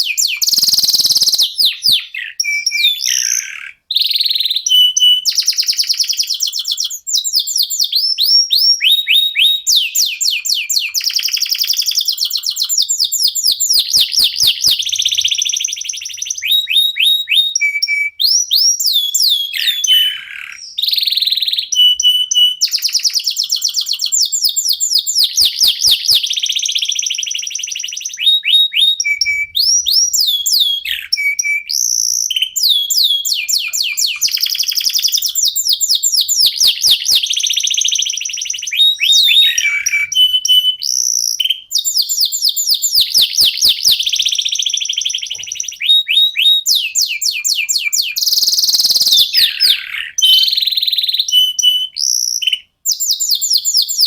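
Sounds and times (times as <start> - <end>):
canaries singing: 0.0 - 54.0.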